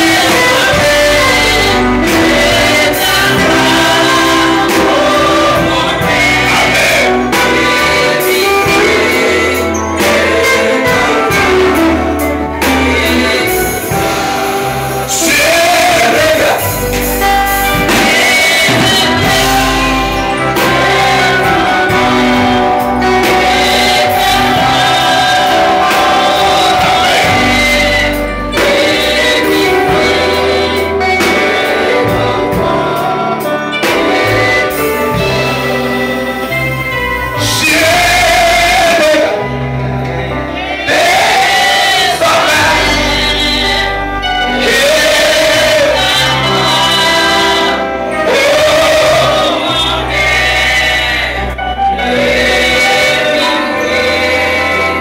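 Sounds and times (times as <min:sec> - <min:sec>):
church band playing: 0:00.0 - 0:55.0
gospel group singing in harmony: 0:00.0 - 0:55.0.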